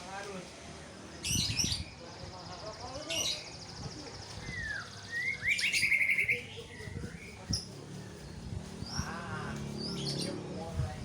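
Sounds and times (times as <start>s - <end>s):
bird singing: 0.8s - 10.7s.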